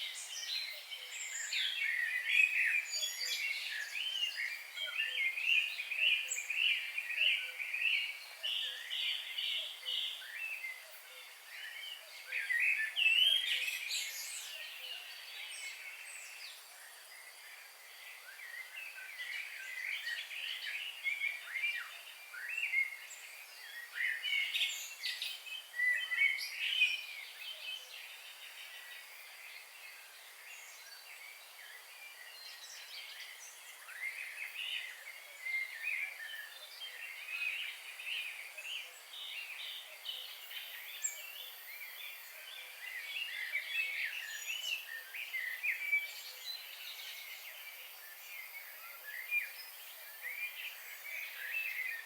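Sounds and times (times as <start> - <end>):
wild birds singing and chirping: 0.0 - 52.0.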